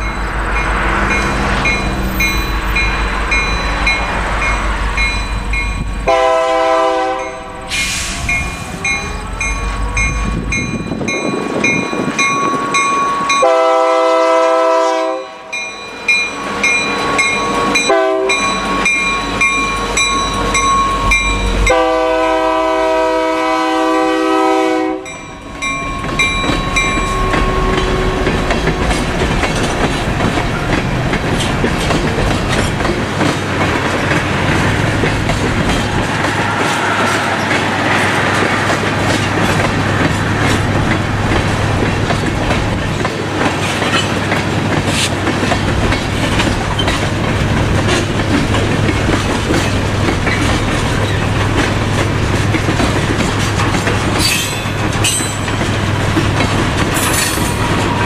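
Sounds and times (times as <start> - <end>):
wheels clacking over rail joints: 0.0 - 14.7, 23.9 - 58.0
freight train rolling past: 0.0 - 58.0.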